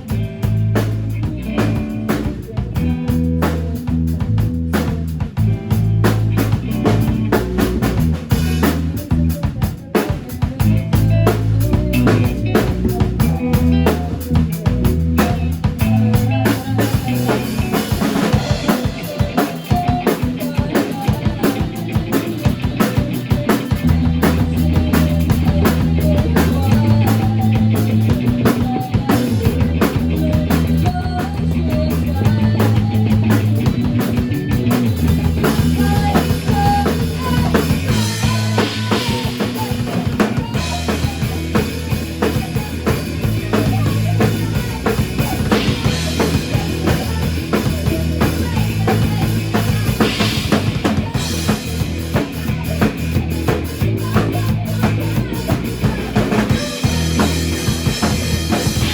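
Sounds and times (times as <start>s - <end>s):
drum kit beat: 0.0s - 58.9s
rock band playing: 0.0s - 58.9s.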